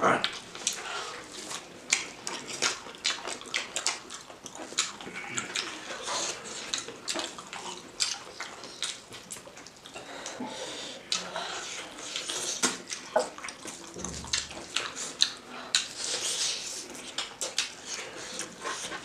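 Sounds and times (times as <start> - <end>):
wet chewing and lip-smacking: 0.2 - 19.0.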